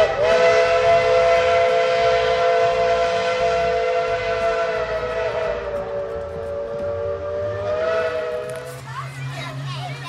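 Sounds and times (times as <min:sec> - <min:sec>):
steam locomotive chime whistle: 0:00.0 - 0:08.7.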